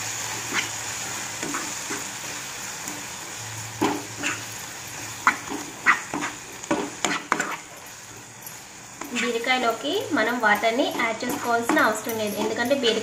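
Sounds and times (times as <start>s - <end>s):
curry sizzling in oil: 0.0s - 13.0s
spatula stirring and scraping: 0.3s - 3.1s, 3.8s - 13.0s.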